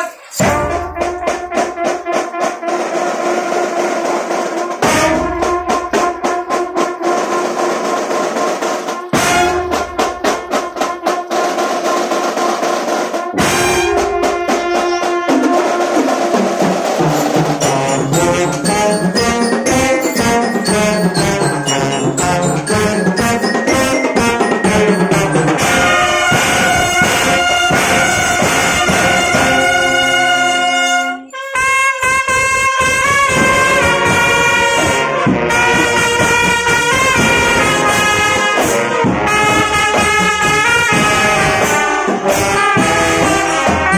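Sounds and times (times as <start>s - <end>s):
brass melody: 0.0s - 43.9s
snare and marching drums: 0.0s - 43.9s.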